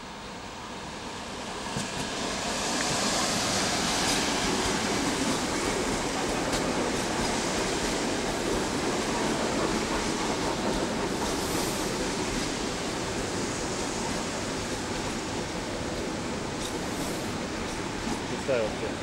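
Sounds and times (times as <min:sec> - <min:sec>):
train wheels rolling on rails: 0:00.7 - 0:19.0.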